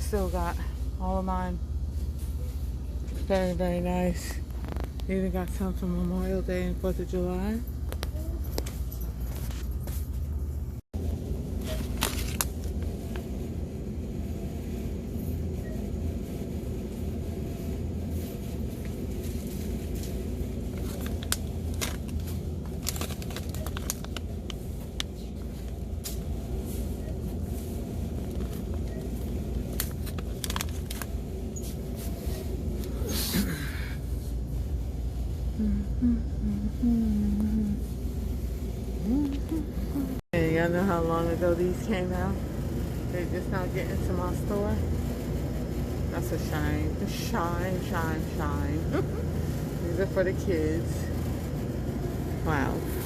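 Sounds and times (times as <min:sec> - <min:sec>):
indoor store background rumble: 0:00.0 - 0:53.0.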